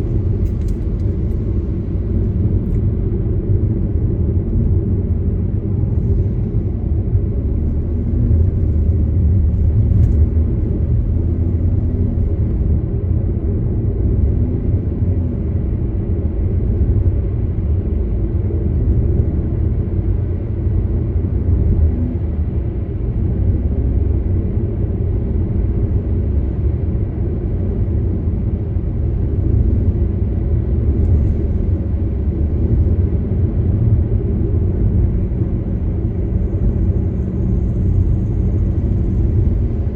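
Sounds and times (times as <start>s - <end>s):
car engine: 0.0s - 39.9s
tyre road noise: 0.0s - 39.9s.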